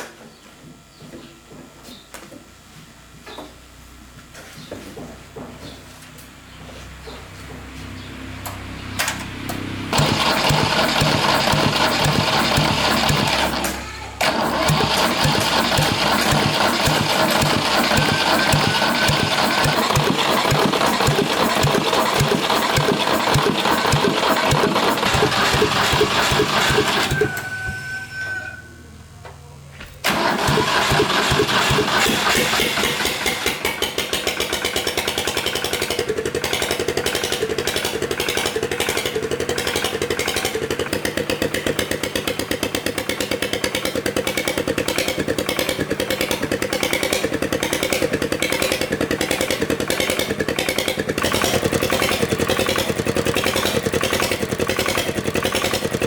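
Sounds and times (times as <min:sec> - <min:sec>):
old farm vehicle engine running: 0:07.4 - 0:28.6, 0:30.0 - 0:56.0.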